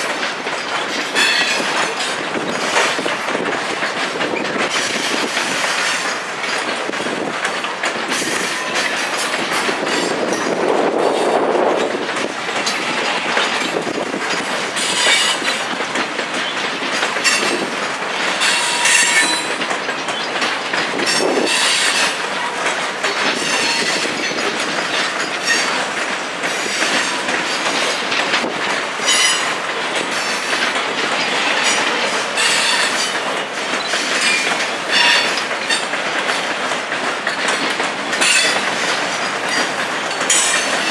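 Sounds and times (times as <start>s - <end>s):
train wheels clacking over rail joints: 0.0s - 40.9s.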